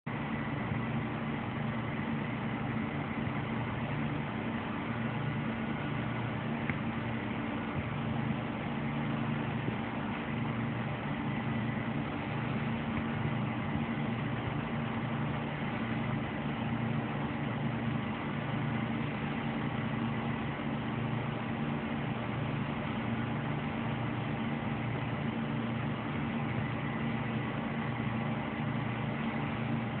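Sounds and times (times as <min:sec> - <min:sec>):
computer fans whirring: 0:00.1 - 0:30.0
faint high whine: 0:00.1 - 0:30.0.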